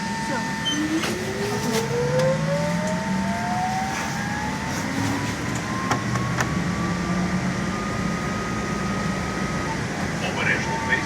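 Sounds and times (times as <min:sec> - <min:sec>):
electric motor whine rising: 0:00.8 - 0:09.9.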